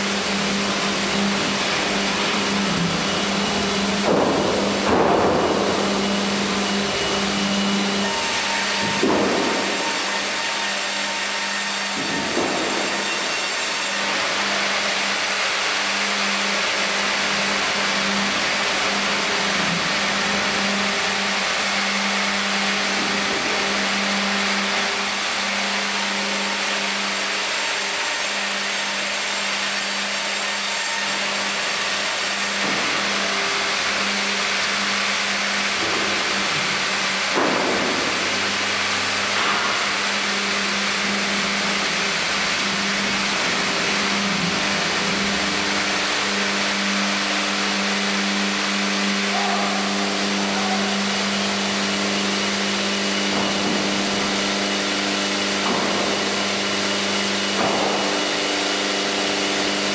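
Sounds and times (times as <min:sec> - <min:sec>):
band saw machine hum: 0:00.0 - 0:59.9.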